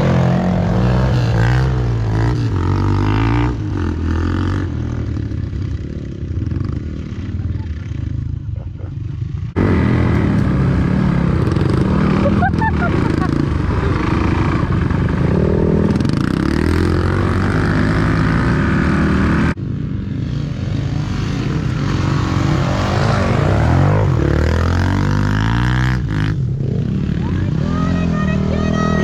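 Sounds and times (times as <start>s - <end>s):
dirt bike engine revving: 0.0s - 8.0s, 9.4s - 19.6s, 20.2s - 29.0s.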